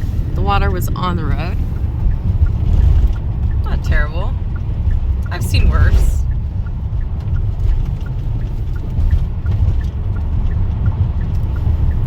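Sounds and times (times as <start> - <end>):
car cabin road rumble: 0.0 - 12.0
faint light ticks: 1.5 - 12.0.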